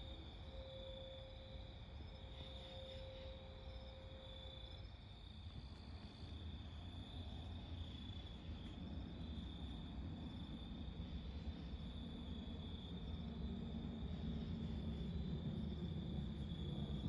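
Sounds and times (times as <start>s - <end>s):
aircraft rumble overhead: 0.0s - 17.0s
crickets chirping: 0.0s - 17.0s
faint steady tone: 0.0s - 17.0s.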